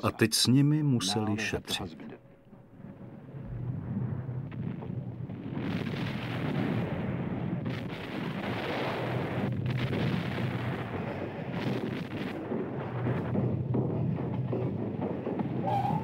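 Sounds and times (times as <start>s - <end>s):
rumbling roar of bombardment: 2.8s - 16.0s.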